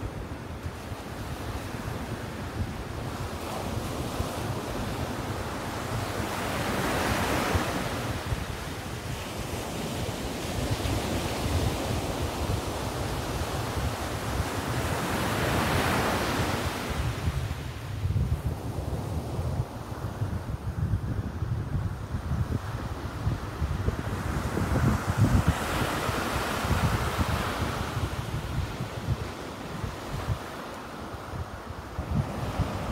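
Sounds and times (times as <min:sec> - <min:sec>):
ocean surf breaking on beach: 0:00.0 - 0:32.9
wind rumbling on microphone: 0:00.0 - 0:32.9.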